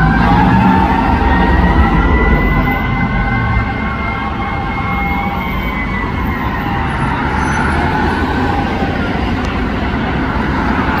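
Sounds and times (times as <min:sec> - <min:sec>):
distant emergency siren wailing: 0:00.0 - 0:11.0
rumble of city traffic: 0:00.0 - 0:11.0.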